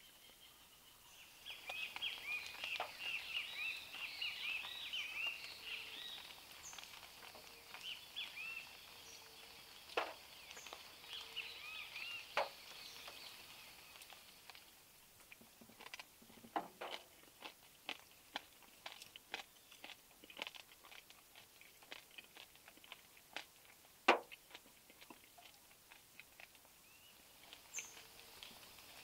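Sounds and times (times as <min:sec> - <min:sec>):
birds chirping: 0:00.0 - 0:21.0, 0:26.7 - 0:29.0.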